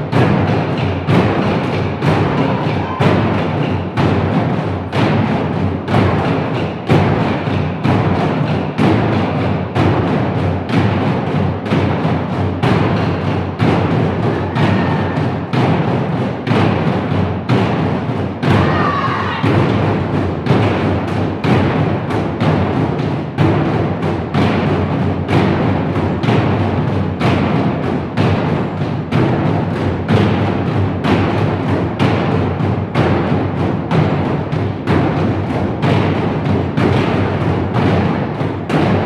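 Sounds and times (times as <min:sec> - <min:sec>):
barrel drums beaten with sticks: 0:00.0 - 0:39.0.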